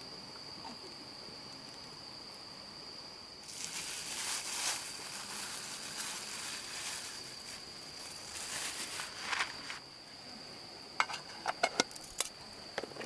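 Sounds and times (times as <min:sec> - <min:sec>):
crackling hiss: 0:00.0 - 0:12.8
high-pitched insect trill: 0:00.0 - 0:12.8.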